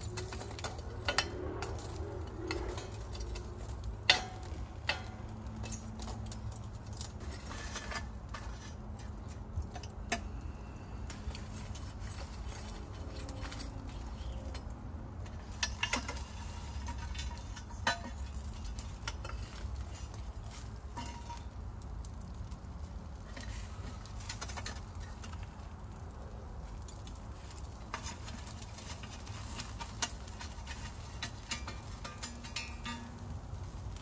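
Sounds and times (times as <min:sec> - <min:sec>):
fire crackling and popping: 0:00.0 - 0:34.0
low fire rumble: 0:00.0 - 0:34.0.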